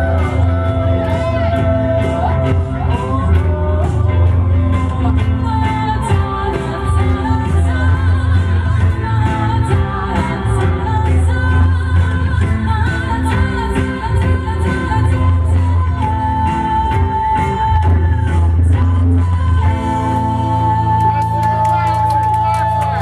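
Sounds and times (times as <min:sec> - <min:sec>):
person singing: 0:00.0 - 0:21.9
heavy bass: 0:00.0 - 0:23.0
rock band playing live: 0:00.0 - 0:23.0.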